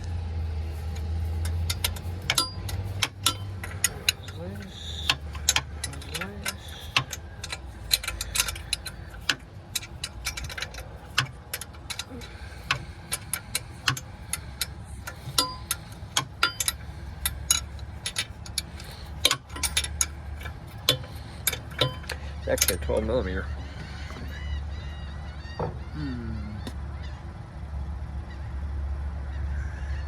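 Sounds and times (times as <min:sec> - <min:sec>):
metal tools clinking on a bolt: 0:00.0 - 0:24.4
low hum: 0:00.0 - 0:29.5.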